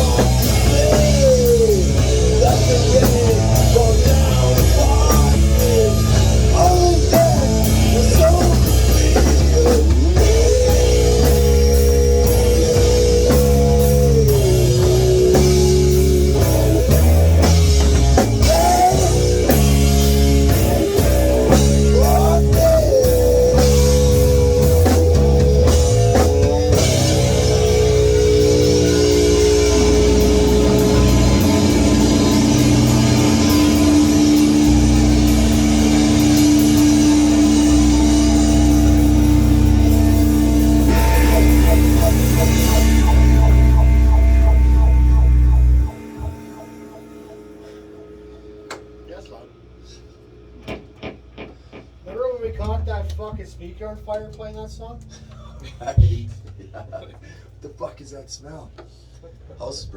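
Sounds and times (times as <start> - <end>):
electric guitar lead: 0.0 - 49.2, 50.4 - 51.9, 54.0 - 57.1
drum kit: 0.0 - 49.3, 50.3 - 57.8
bass: 0.0 - 59.9.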